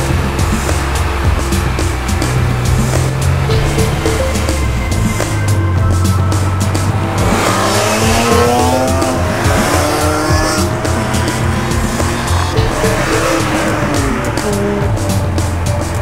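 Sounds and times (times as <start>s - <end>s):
background music: 0.0s - 16.0s
car engine revving: 0.0s - 16.0s.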